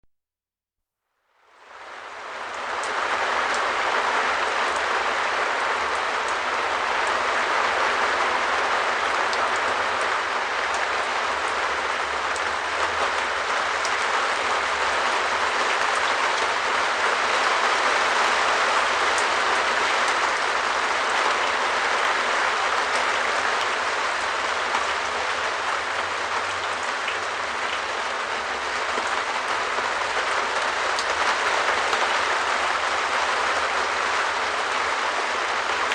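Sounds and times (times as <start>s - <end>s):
rain on a shed roof: 1.3s - 35.9s.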